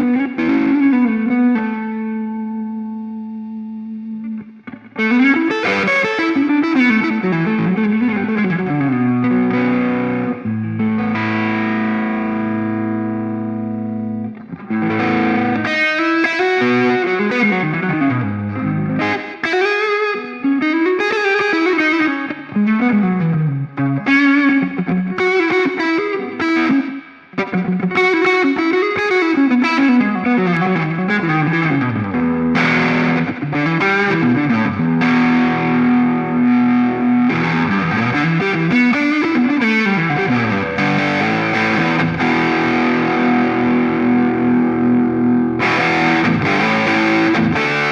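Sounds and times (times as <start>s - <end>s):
distorted electric guitar lead: 0.0s - 47.9s.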